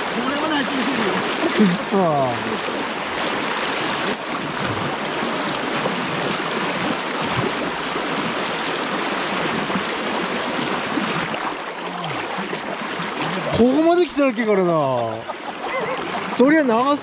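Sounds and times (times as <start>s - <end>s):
fast river rushing: 0.0s - 17.0s.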